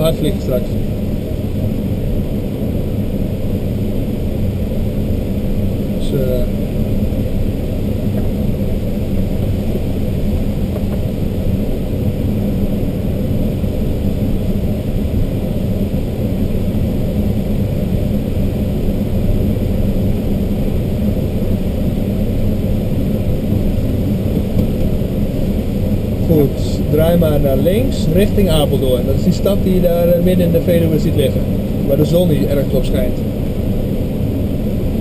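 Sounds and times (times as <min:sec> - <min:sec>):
air rushing past glider canopy: 0:00.0 - 0:35.0.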